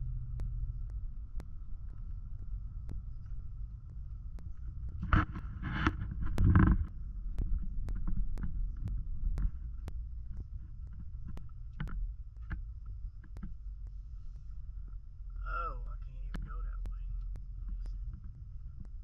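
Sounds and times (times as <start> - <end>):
light regular ticking: 0.0 - 19.0.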